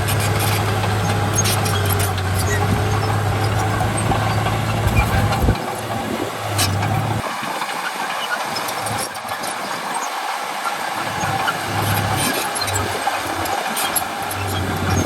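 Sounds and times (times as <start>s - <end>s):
diesel machinery engine hum: 0.0s - 15.0s.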